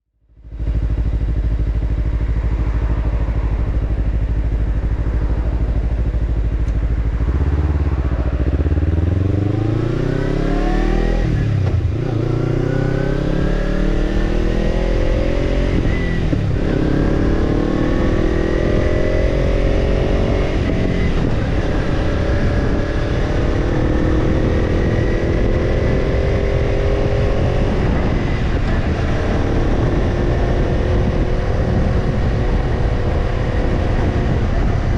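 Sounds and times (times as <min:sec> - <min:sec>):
motorcycle engine accelerating: 0:00.3 - 0:34.9.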